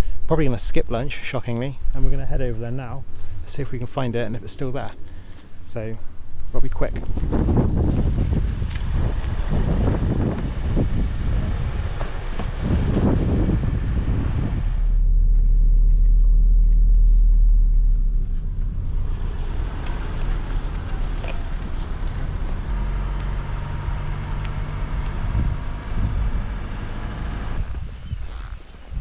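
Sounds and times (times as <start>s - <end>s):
van engine and tyres on road: 0.0s - 29.0s.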